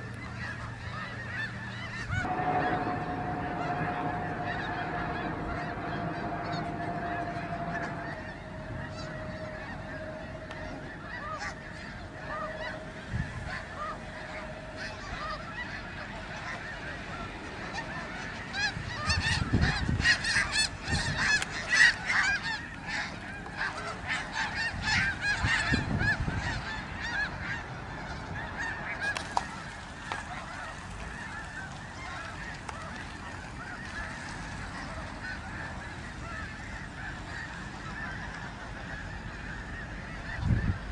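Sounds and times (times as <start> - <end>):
flock of geese honking: 0.0 - 40.9.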